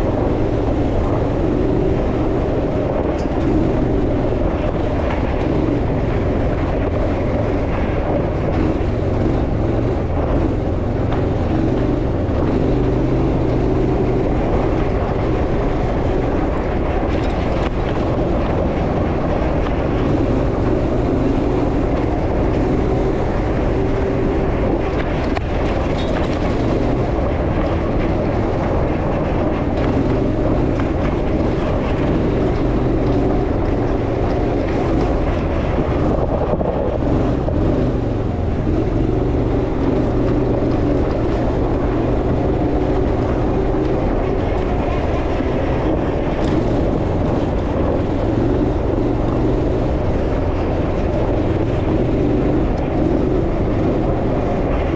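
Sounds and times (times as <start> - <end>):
off-road vehicle engine droning: 0.0 - 54.9.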